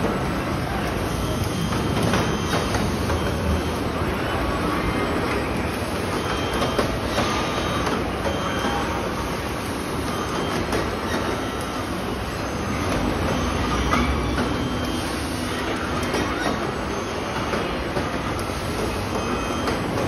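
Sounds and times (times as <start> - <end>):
assembly line machinery hum: 0.0 - 20.0.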